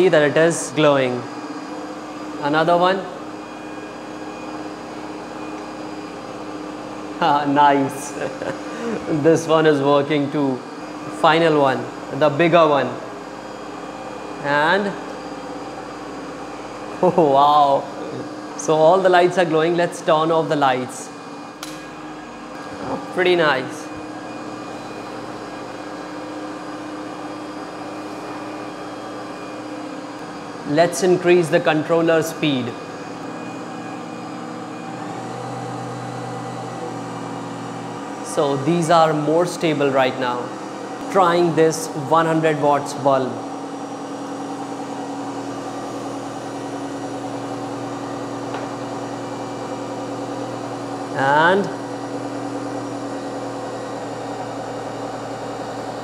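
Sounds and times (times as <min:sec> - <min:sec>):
motor running steady tone: 0:00.0 - 0:56.0.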